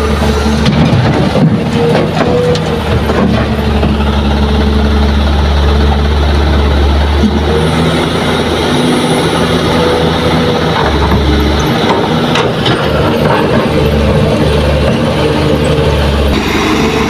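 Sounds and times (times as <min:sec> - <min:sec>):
excavator diesel engine drone: 0:00.0 - 0:17.0.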